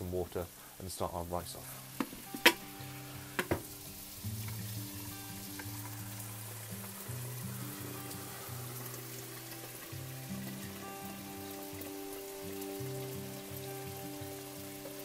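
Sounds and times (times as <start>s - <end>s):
background music: 0.0s - 15.0s
food sizzling in a wok: 1.5s - 15.0s.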